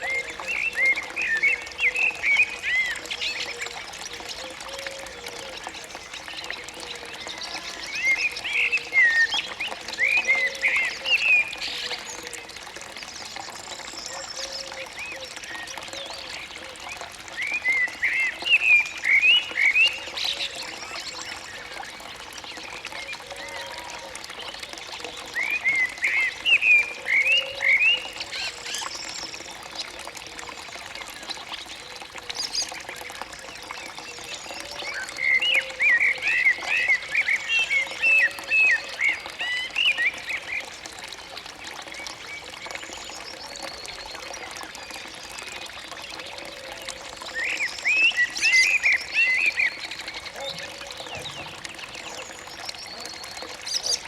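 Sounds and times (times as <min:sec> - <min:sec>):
trickle of running water: 0:00.0 - 0:54.0.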